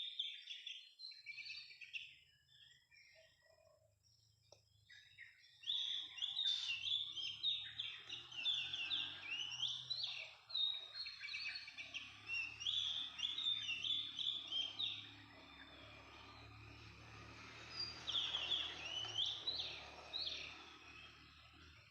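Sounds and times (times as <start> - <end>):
bird chirping and warbling: 0.0 - 21.9.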